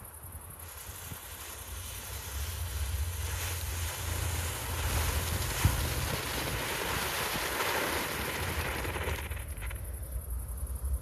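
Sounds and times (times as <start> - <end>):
wind buffeting microphone: 0.2 - 10.5
firework spraying hiss: 0.5 - 9.8
sharp firework crack: 0.9 - 9.8.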